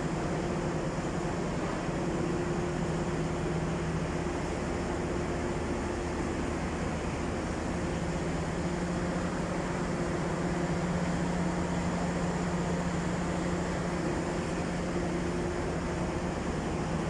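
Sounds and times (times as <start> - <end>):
train machinery hum: 0.0 - 17.0.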